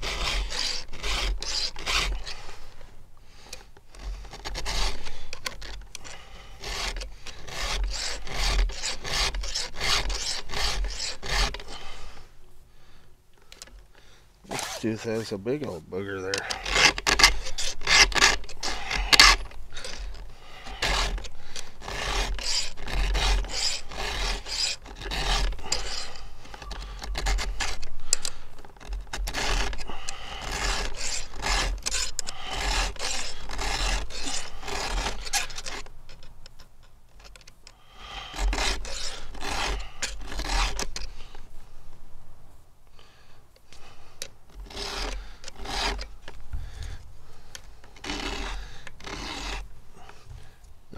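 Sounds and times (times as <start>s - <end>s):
file rasping on chainsaw chain: 0.0s - 2.6s, 3.5s - 12.1s, 14.5s - 36.3s, 38.0s - 41.3s, 44.5s - 46.9s, 47.9s - 50.1s.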